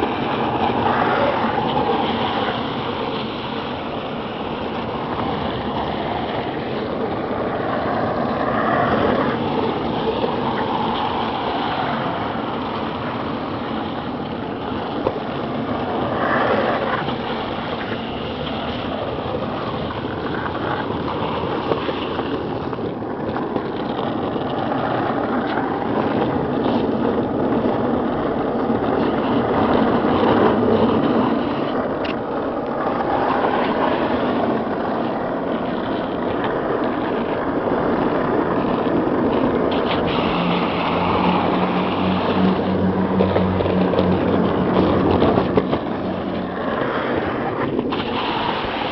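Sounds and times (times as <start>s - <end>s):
longboard wheels rolling on asphalt: 0.0s - 48.9s
vehicle engine hum: 0.0s - 48.9s.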